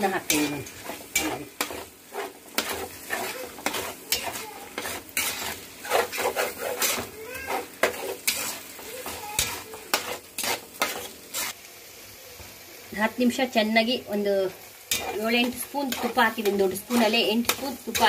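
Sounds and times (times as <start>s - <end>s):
metal spatula scraping wok: 0.0s - 11.6s, 14.8s - 18.0s
food sizzling: 0.0s - 18.0s.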